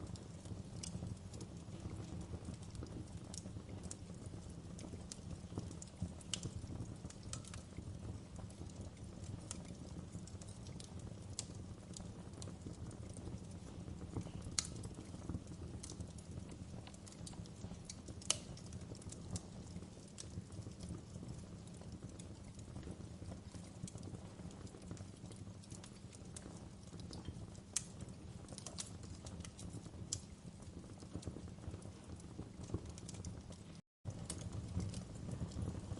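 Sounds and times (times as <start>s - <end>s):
fire rumbling: 0.0s - 35.9s.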